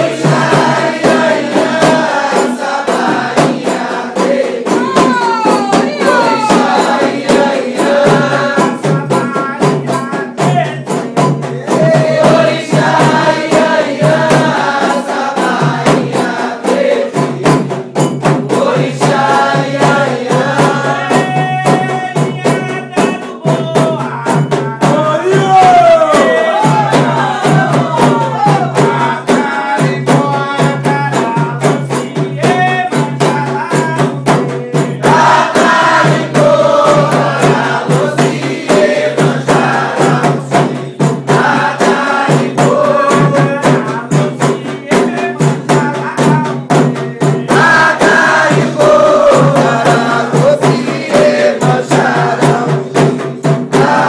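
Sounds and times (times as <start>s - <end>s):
fast dense percussion with rattles: 0.0s - 54.0s
voices chanting together: 0.0s - 54.0s.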